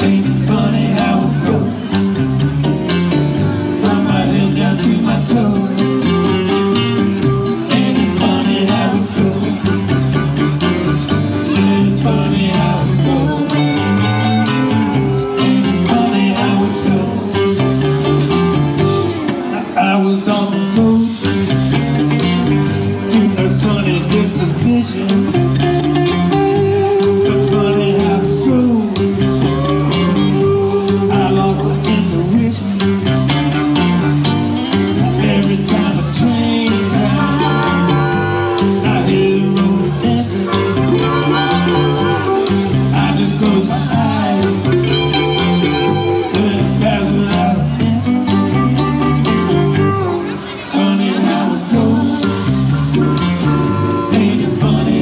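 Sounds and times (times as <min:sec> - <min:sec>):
person singing: 0:00.0 - 0:03.0, 0:03.6 - 0:10.2, 0:11.1 - 0:21.5, 0:22.6 - 0:32.9, 0:33.5 - 0:55.0
bass guitar: 0:00.0 - 0:55.0
blues-rock band playing: 0:00.0 - 0:55.0
drums: 0:00.0 - 0:55.0
electric guitars: 0:00.0 - 0:55.0.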